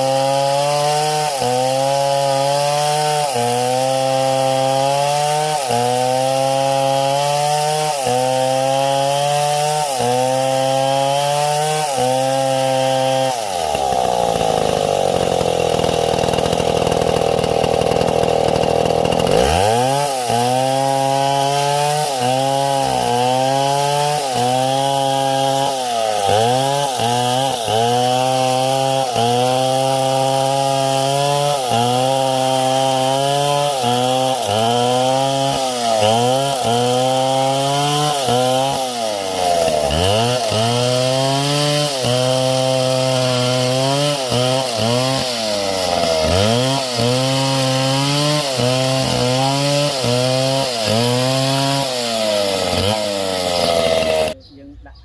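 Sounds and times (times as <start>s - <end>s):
chainsaw cutting wood: 0.0s - 54.4s.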